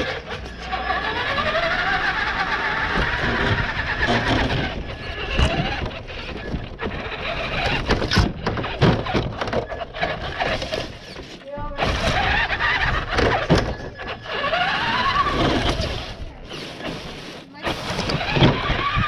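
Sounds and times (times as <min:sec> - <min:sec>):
car knocking and rattling over ground: 0:00.0 - 0:19.0
rc car motor whining: 0:00.0 - 0:19.0.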